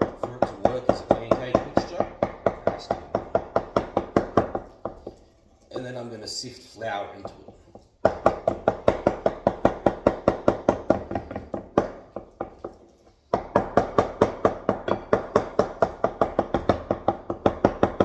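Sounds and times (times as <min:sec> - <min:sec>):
wooden utensil beating batter in bowl: 0:00.0 - 0:06.1, 0:06.8 - 0:18.0.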